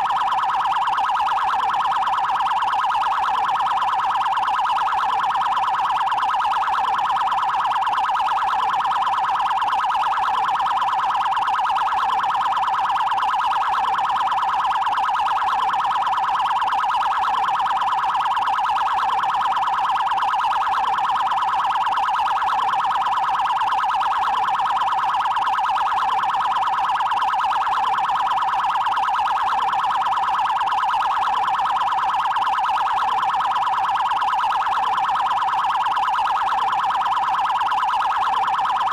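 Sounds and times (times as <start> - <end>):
siren with fast pulsing high tone: 0.0 - 38.9.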